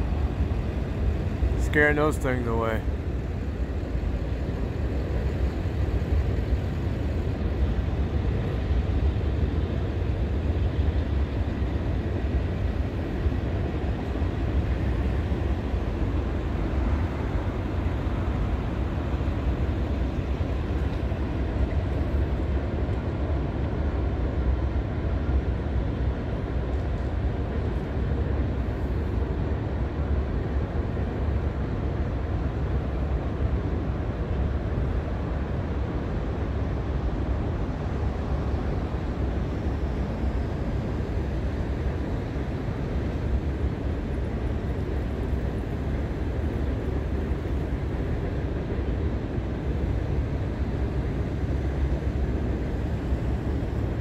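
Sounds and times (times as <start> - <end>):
freight train rumbling: 0.0 - 54.0.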